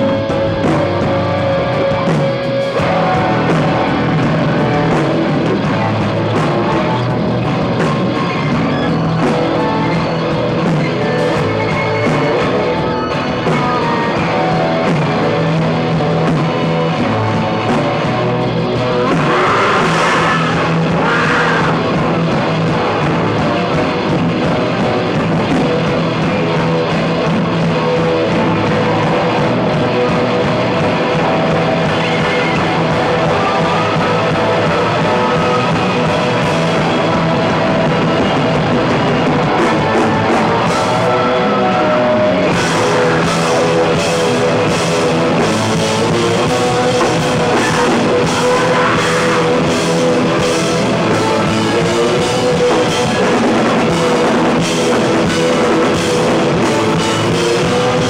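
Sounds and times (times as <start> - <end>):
drums: 0.0 - 58.0
electric guitars: 0.0 - 58.0.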